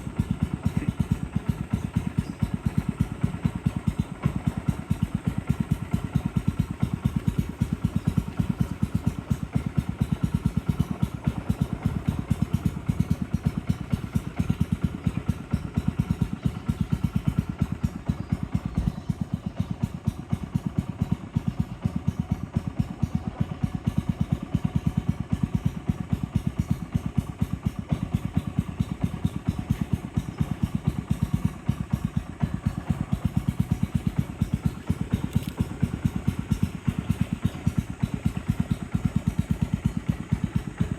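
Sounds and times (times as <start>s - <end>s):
boat engine chugging: 0.0s - 40.9s.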